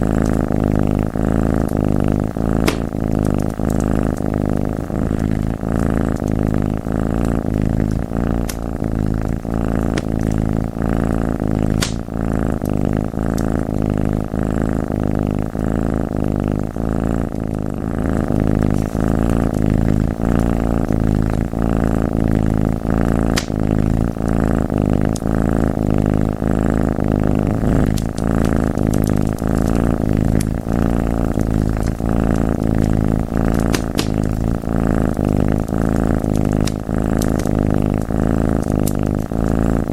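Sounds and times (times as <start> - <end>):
cat purring: 0.0 - 39.9
wood fire crackles: 0.2 - 14.2, 17.3 - 39.0.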